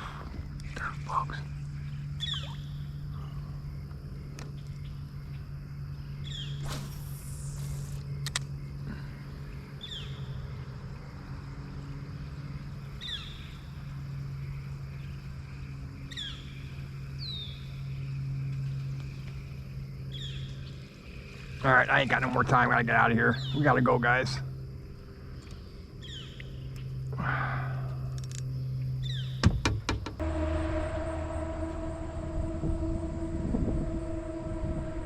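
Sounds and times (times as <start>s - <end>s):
steady low hum: 0.0s - 29.4s, 30.0s - 35.0s.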